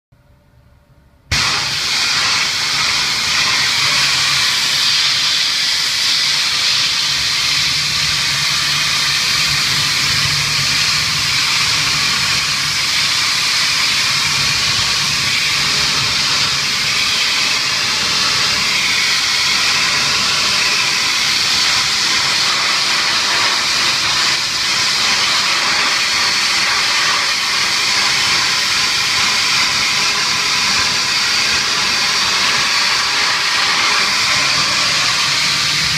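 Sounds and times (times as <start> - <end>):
pressure washer spraying metal: 1.3 - 35.9.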